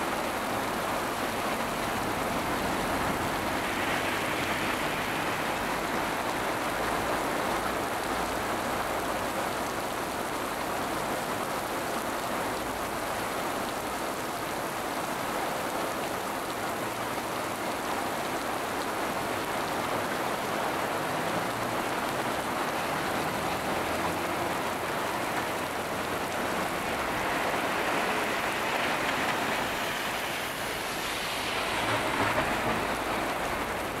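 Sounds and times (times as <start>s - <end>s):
car tyres swishing through water: 0.0s - 34.0s
heavy rain on a street: 0.0s - 34.0s.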